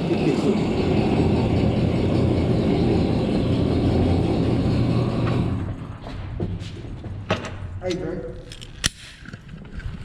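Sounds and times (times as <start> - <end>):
low mechanical rumble with hum: 0.0 - 8.9.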